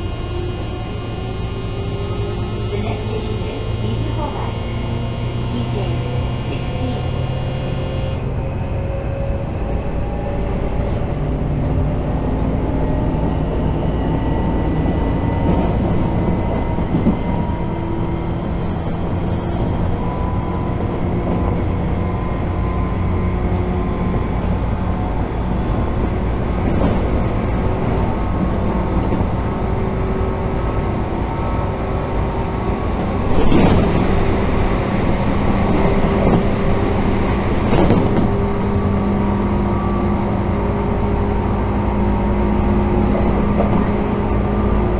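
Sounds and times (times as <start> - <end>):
train running rattle: 0.0 - 44.9.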